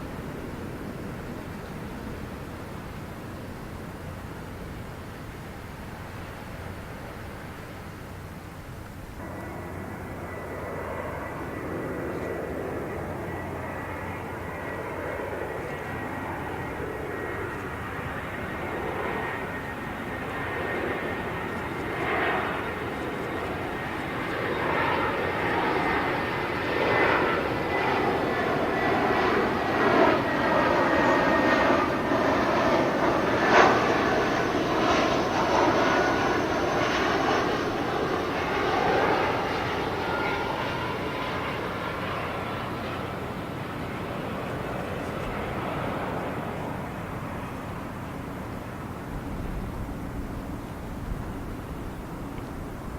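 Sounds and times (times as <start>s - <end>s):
jet engine crackling rumble: 0.0s - 52.9s
jet engine high whine: 0.0s - 52.9s.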